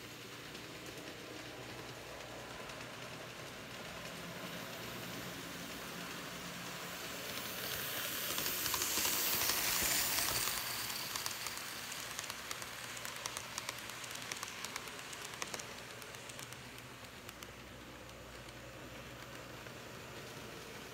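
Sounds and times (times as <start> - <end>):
model train hiss: 0.0 - 20.9
wheels clicking on rails: 0.0 - 20.9.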